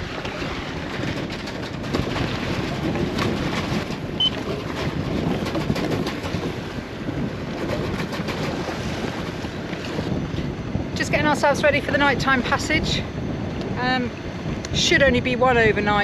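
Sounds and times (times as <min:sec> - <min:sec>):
wind buffeting microphone: 0:00.0 - 0:16.0
sea waves rushing: 0:01.8 - 0:14.9.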